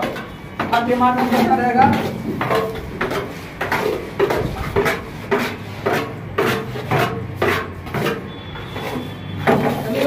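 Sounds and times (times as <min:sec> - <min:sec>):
trowel scraping mortar from pan: 0:01.2 - 0:10.0.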